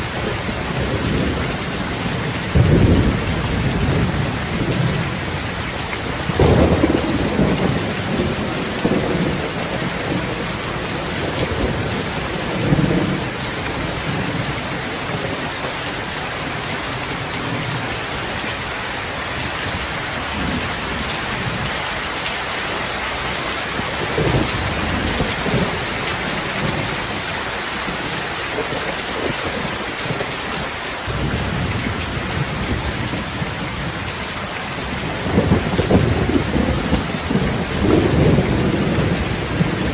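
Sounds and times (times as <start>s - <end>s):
thunder rumbling: 0.0s - 18.2s, 23.2s - 39.9s
heavy rain: 0.0s - 39.9s.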